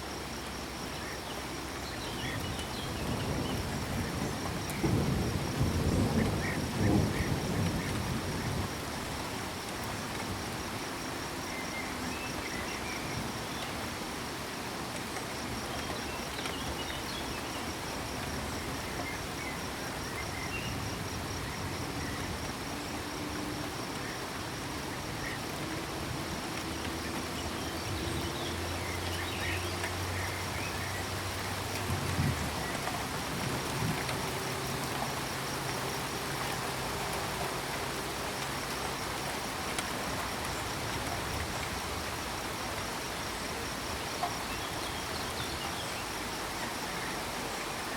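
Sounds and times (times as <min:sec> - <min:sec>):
cricket trilling: 0:00.0 - 0:47.9
frogs croaking: 0:00.0 - 0:47.9
steady rain: 0:00.0 - 0:47.9.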